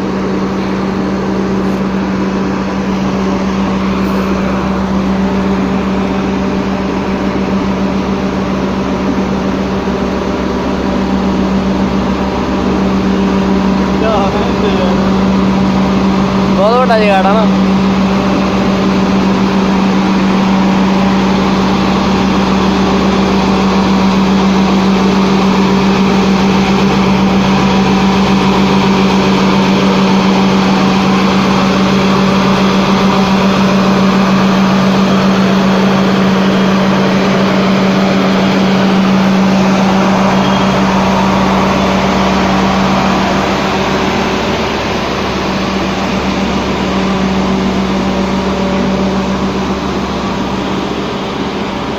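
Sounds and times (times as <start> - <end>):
truck diesel engine droning: 0.0 - 51.9.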